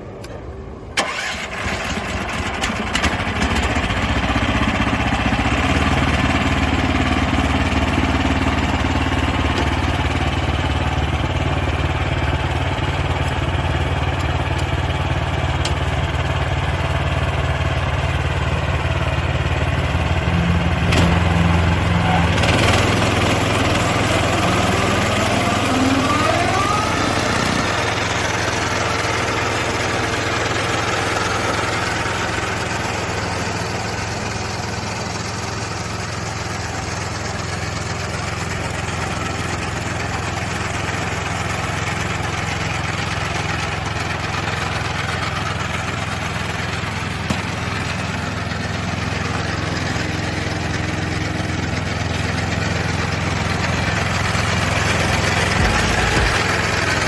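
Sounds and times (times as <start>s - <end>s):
lawn mower engine droning: 0.0s - 57.0s.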